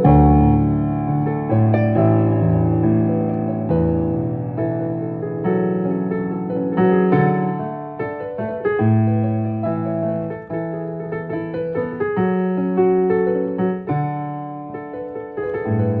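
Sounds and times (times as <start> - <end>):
digital piano chords: 0.0 - 16.0.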